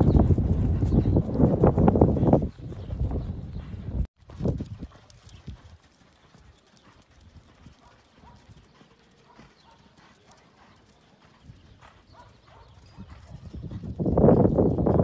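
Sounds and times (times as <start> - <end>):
hoofbeats on sand: 0.0 - 15.0.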